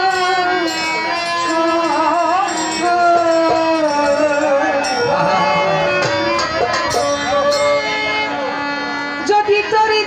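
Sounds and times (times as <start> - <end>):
live folk band: 0.0 - 10.0.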